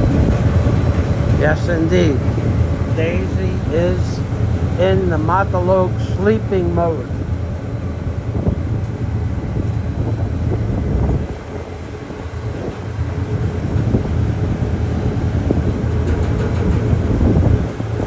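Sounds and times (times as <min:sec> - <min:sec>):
ship engines droning: 0:00.0 - 0:18.0.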